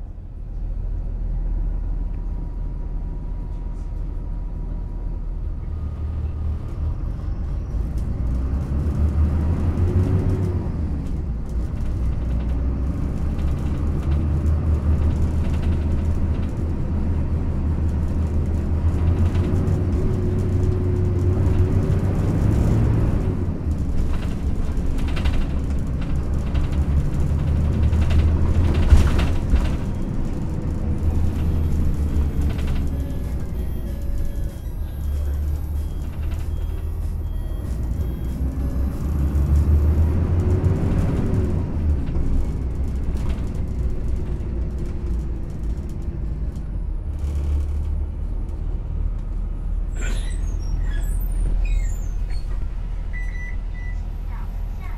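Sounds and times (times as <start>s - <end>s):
bus engine rumble: 0.0s - 54.9s.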